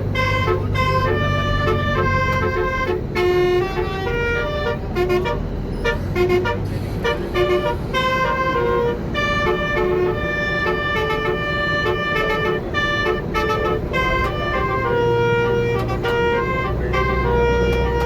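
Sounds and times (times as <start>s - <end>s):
low rumble of bus: 0.0s - 18.0s
musical air horn melody: 0.0s - 18.0s.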